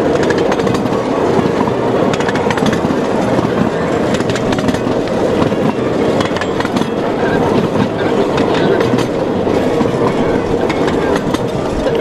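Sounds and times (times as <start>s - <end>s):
miniature train engine rumble: 0.0s - 12.0s
wheels clicking on rails: 0.0s - 12.0s.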